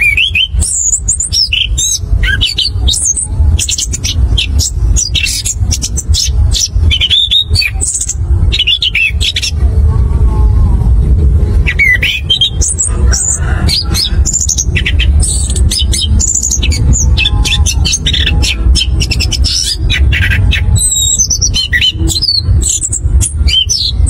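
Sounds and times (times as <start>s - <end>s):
bird singing rolling song: 0.0s - 9.6s, 11.5s - 24.0s
low rumble: 0.0s - 24.0s.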